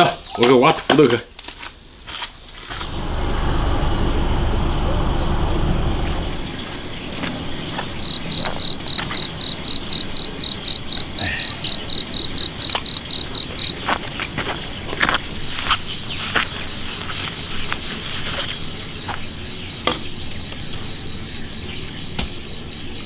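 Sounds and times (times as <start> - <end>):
insect chirping: 1.2 - 23.0.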